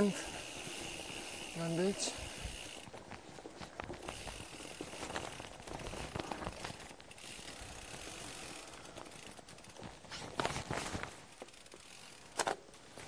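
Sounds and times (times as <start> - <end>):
bicycle riding over rough ground: 0.0 - 13.0
small rattles and clicks: 0.0 - 13.0.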